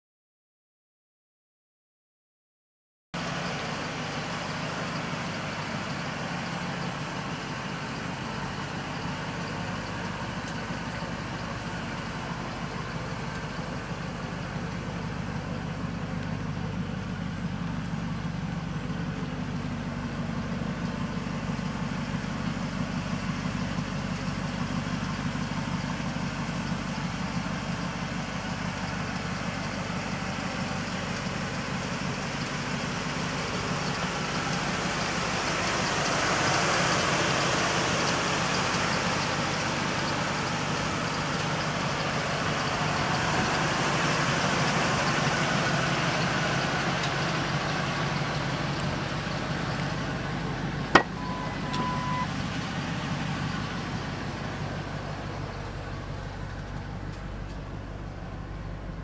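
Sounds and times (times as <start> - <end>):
truck engine idling: 3.2 - 59.0.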